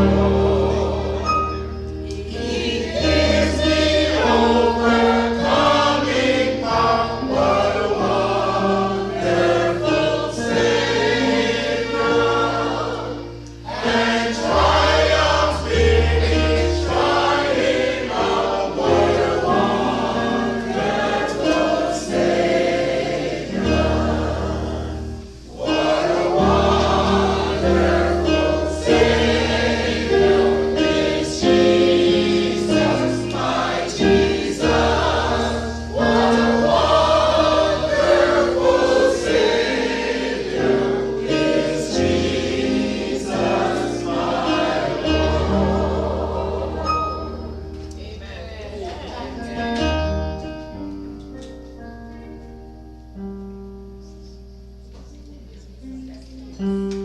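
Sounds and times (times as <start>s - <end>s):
choir singing a gospel hymn: 0.0s - 52.0s
instrumental accompaniment: 0.0s - 57.0s.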